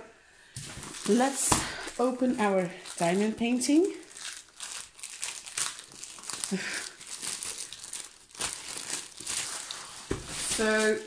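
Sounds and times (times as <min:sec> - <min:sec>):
packaging crinkling and rustling: 0:00.5 - 0:11.0.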